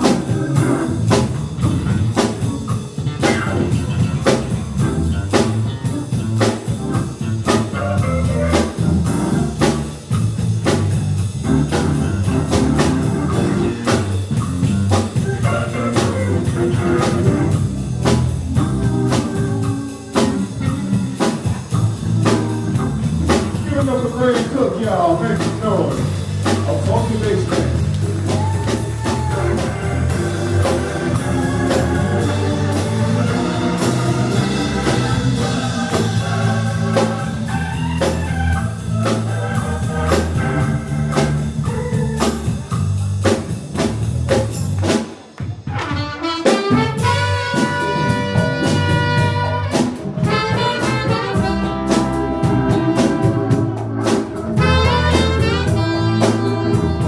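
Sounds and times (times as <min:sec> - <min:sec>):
drum kit beat: 0:00.0 - 0:57.0
live band playing blues-jazz: 0:00.0 - 0:57.0.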